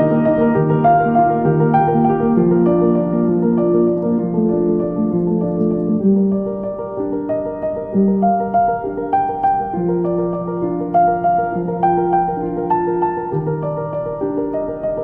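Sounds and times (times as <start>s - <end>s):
calm piano music: 0.0s - 15.0s.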